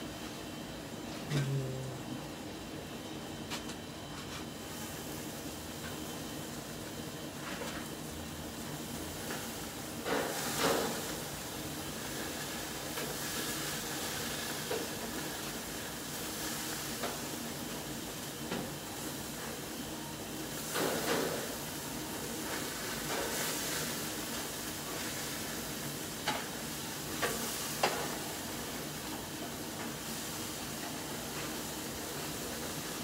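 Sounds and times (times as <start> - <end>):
burgers sizzling on grill: 4.2 - 33.0.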